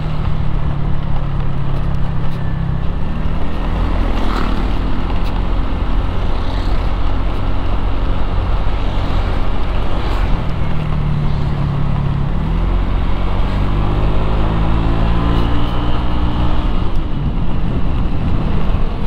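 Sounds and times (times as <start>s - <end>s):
engine accelerating: 0.0s - 19.0s
traffic rumble: 0.0s - 19.0s.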